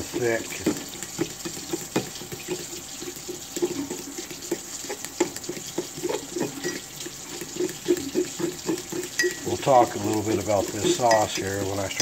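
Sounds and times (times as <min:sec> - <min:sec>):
fork stirring thick sauce: 0:00.0 - 0:12.0
wet sloshing: 0:00.0 - 0:12.0.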